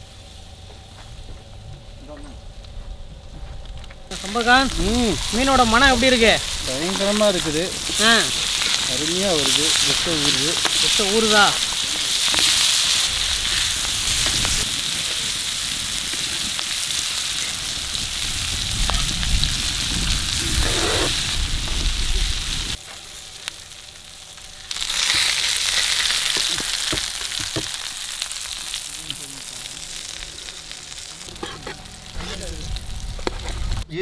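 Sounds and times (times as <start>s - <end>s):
fish sizzling in butter: 4.1s - 33.9s.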